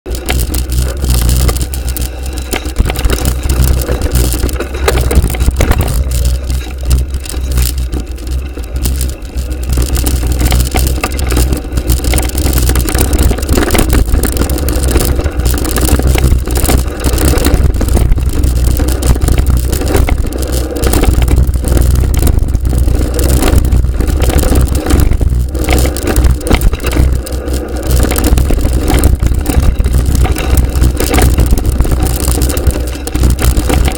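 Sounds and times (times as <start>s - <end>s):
bike tyres rattling and crunching: 0.0s - 33.9s.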